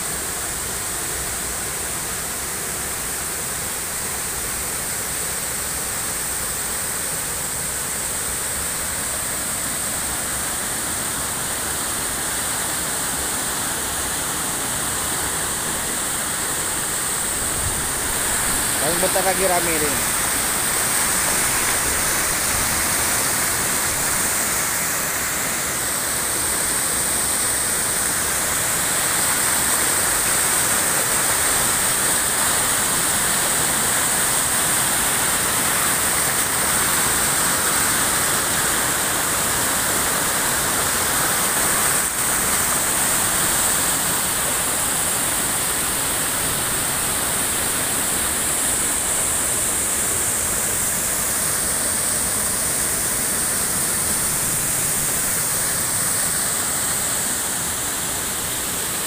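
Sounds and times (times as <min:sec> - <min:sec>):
stream pouring over weir: 0:00.0 - 0:59.0
waterfall rushing: 0:00.0 - 0:59.0.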